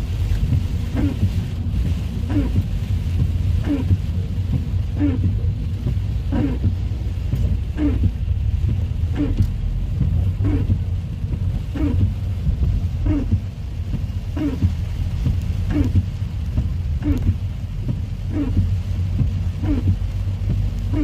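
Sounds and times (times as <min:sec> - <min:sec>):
low rumble: 0:00.0 - 0:21.0
steady rain: 0:00.0 - 0:21.0.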